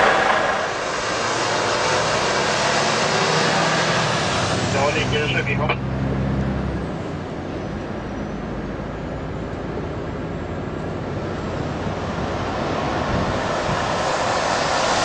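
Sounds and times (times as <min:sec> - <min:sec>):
truck tyre and road noise: 0:00.0 - 0:15.0.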